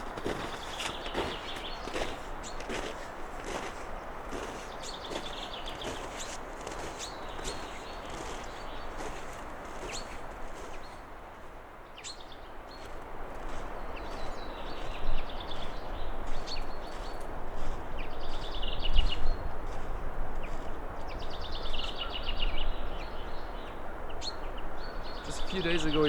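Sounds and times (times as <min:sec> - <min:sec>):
small birds chirping and trilling: 0:00.0 - 0:26.0
wind buffeting microphone: 0:00.0 - 0:26.0
wind gusting: 0:00.0 - 0:26.0.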